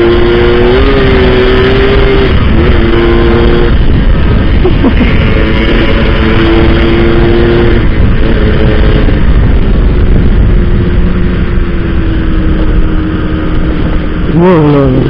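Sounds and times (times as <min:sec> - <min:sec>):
heavy wind rush: 0:00.0 - 0:15.0
two-stroke motorcycle engine cruising: 0:00.0 - 0:15.0.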